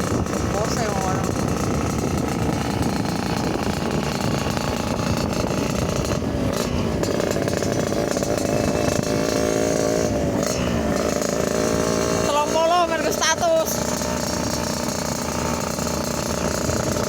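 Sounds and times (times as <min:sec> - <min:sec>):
motorcycle engine with racing exhaust: 0:00.0 - 0:17.0.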